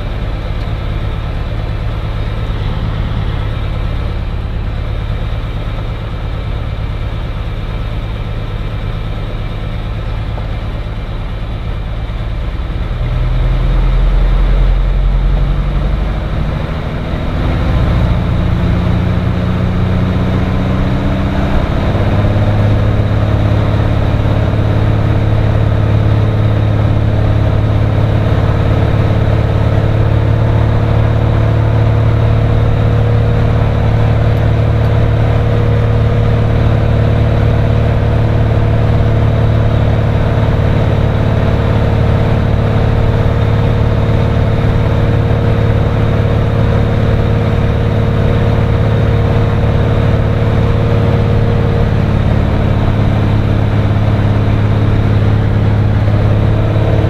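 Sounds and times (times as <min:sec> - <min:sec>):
piston engine and propeller running: 0:00.0 - 0:57.0.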